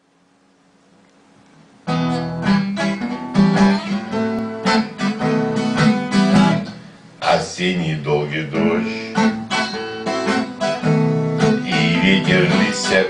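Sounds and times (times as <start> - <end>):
faint hiss: 0.0 - 13.0
strummed acoustic guitar chords: 1.8 - 13.0.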